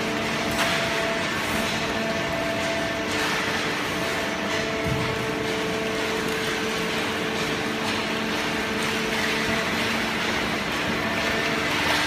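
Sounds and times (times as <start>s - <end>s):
machine mechanical hum: 0.0s - 12.0s.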